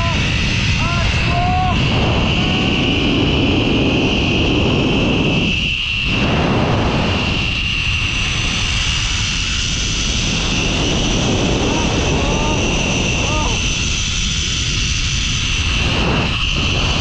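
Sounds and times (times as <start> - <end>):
wind rush on microphone: 0.0 - 17.0
zip-line trolley whine: 0.0 - 17.0.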